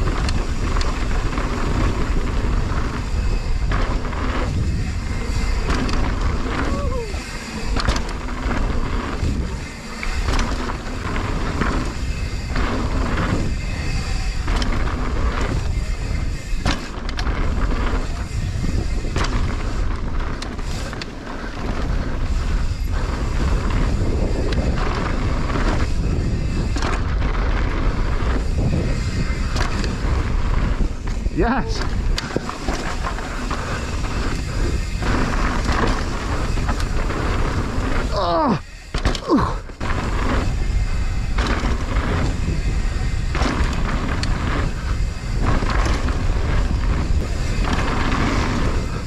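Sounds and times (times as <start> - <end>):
bike knocks and thumps: 0.0 - 38.1, 38.8 - 49.0
wind rumble on microphone: 0.0 - 49.0.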